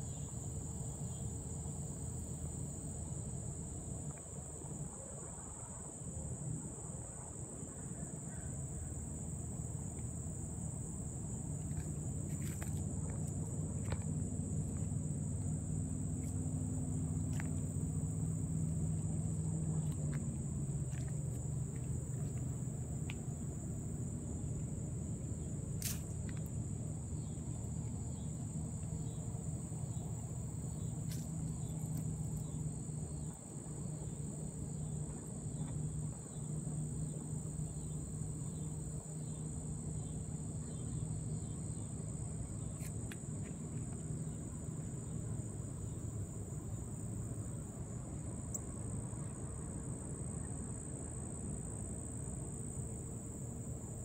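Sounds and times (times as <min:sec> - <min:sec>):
crickets chirping: 0:00.0 - 0:54.0
low steady hum: 0:00.0 - 0:54.0.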